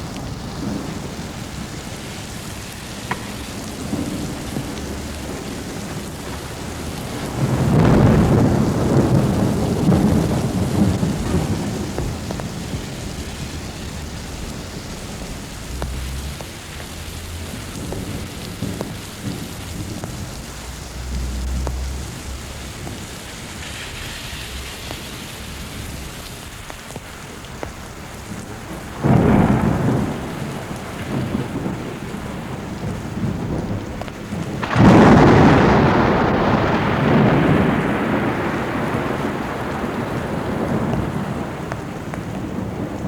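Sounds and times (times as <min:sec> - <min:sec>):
steady rain: 0:00.0 - 0:43.0
thunder rolling: 0:00.0 - 0:43.0.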